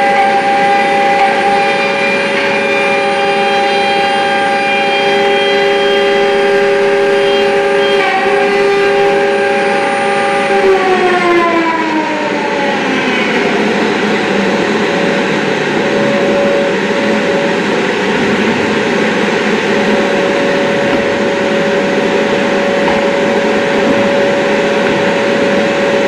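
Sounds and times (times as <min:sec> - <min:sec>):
dust extractor droning: 0:00.0 - 0:26.0
router whining while routing wood: 0:00.0 - 0:26.0.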